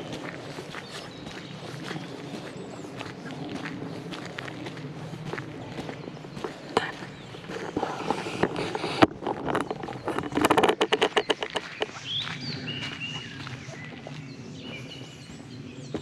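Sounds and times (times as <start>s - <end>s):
birds chirping: 0.0s - 16.0s
footsteps on forest trail: 0.0s - 16.0s.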